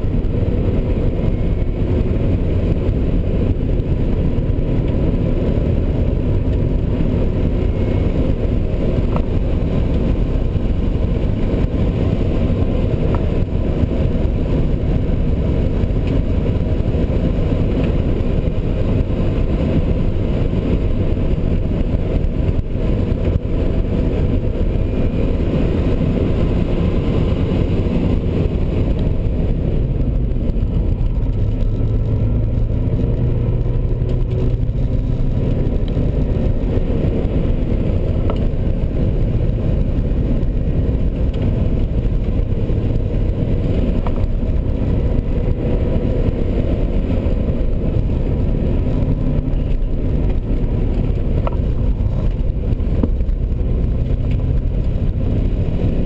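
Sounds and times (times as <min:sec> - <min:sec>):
car engine running under load: 0:00.0 - 0:56.0
tyre and wind noise: 0:00.0 - 0:56.0.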